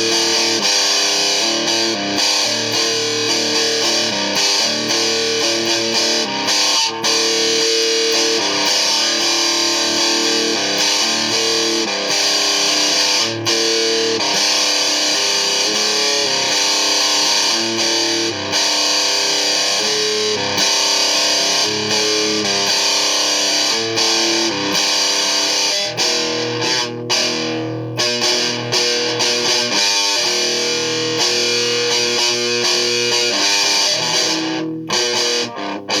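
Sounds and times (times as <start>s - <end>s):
distorted electric guitar chords: 0.0s - 36.0s.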